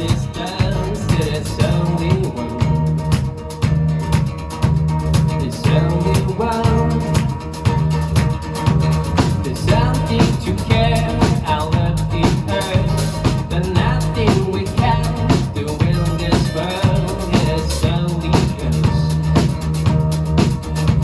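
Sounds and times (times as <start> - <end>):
drum kit beat: 0.0 - 21.0
rock band playing live: 0.0 - 21.0.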